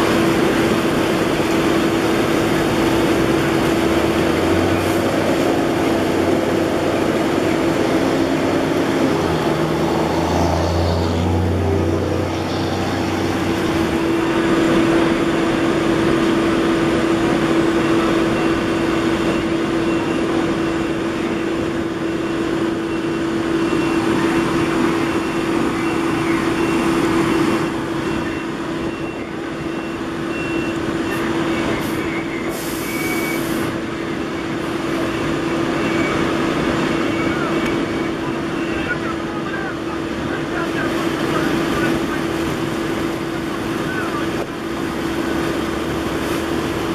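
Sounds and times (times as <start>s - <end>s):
truck engines humming: 0.0s - 46.9s.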